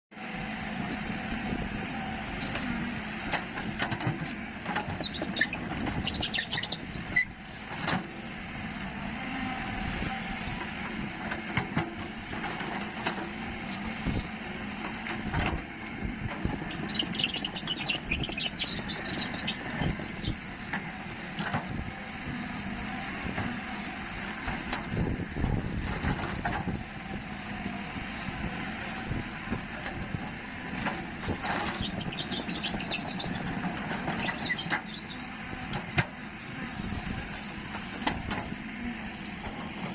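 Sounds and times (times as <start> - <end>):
heavy machinery engine running: 0.2 - 39.9.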